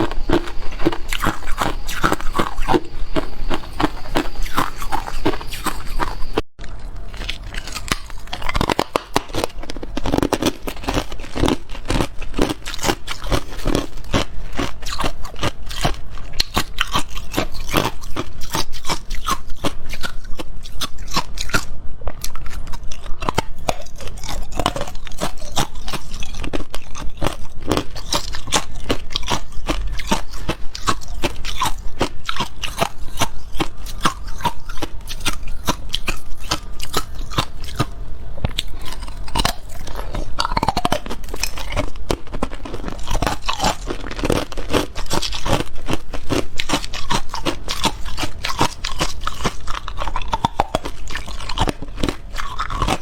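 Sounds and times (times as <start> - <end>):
ice crunching in mouth: 0.0 - 53.0.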